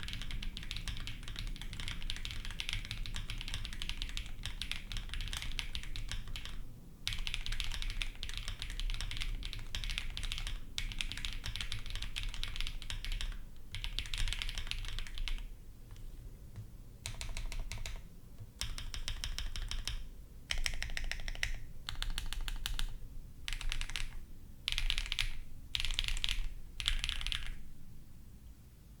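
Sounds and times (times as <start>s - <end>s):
typing on mechanical keyboard: 0.0s - 16.0s, 17.0s - 27.6s.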